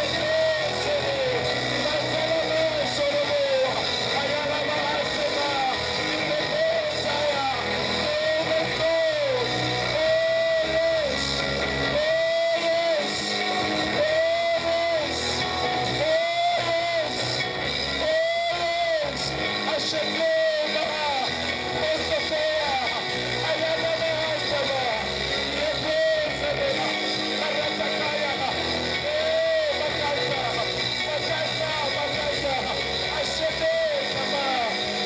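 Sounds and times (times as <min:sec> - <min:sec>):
guitar music: 0:00.0 - 0:35.0.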